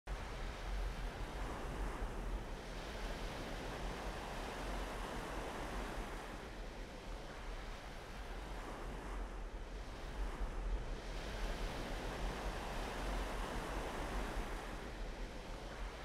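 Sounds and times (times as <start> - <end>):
wind rumble on microphone: 0.1 - 16.0.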